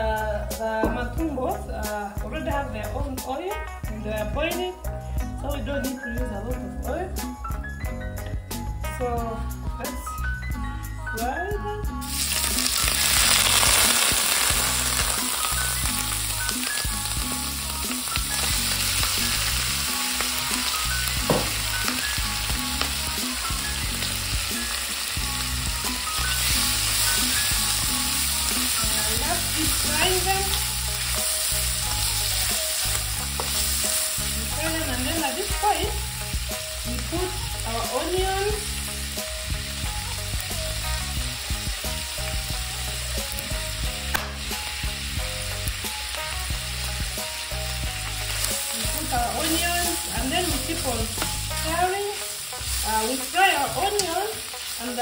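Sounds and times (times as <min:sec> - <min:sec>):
food sizzling in hot oil: 0:07.1 - 0:55.0.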